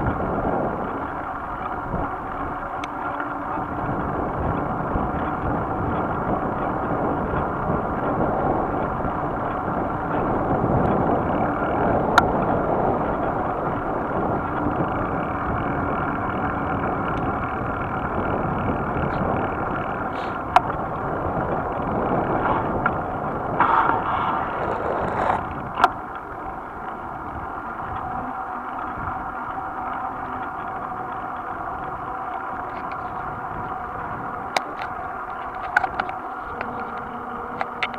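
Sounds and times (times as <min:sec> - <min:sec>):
wind rushing over microphone: 0:00.0 - 0:29.7, 0:30.6 - 0:37.9
bicycle tyres on wet asphalt: 0:00.0 - 0:37.9.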